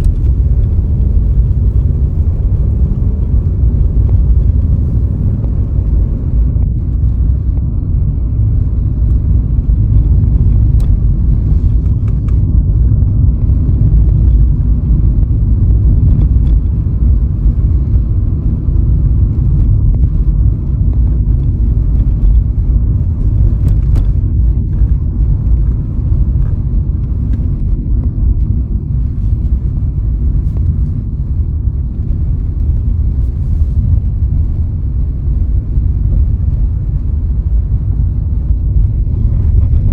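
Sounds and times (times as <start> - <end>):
car road and wind noise: 0.0 - 39.9.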